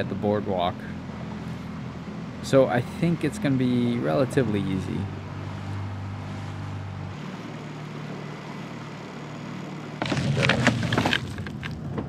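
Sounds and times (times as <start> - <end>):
small boat motor humming: 0.0 - 12.0.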